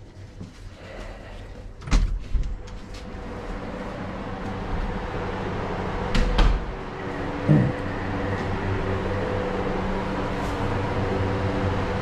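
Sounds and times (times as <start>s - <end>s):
ventilation hum and hiss: 0.0s - 12.0s.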